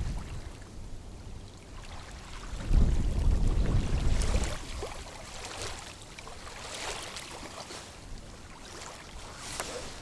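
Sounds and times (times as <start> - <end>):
small waves lapping on a shoreline: 0.0 - 10.0
wind buffeting the microphone: 0.0 - 10.0.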